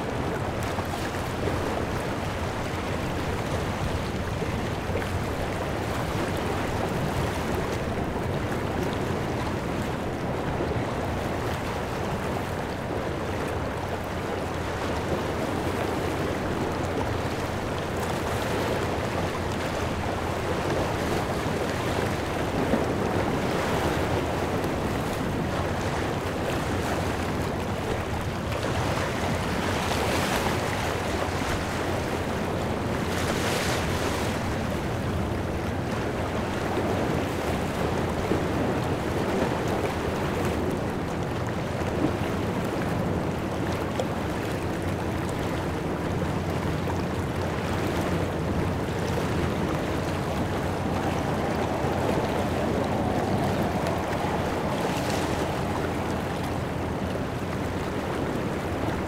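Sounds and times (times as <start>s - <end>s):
waves splashing against rocks: 0.1s - 59.0s.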